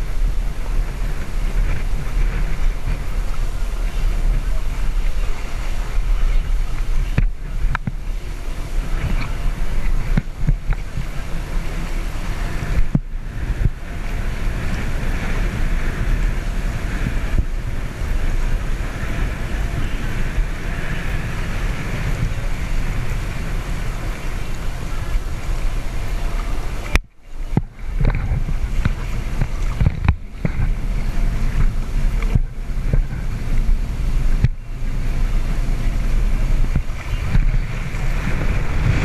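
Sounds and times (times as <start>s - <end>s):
water rushing along a hull: 0.0s - 39.0s
wind buffeting microphone: 0.0s - 39.0s.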